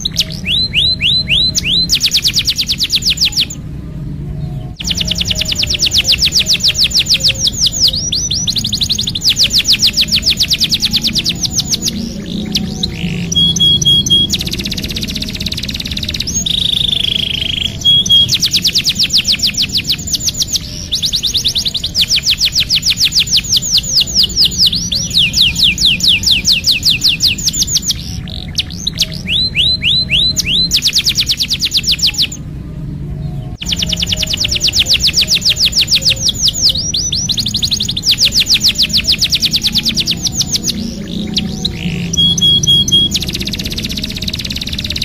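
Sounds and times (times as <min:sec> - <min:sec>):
canary singing: 0:00.0 - 0:45.0.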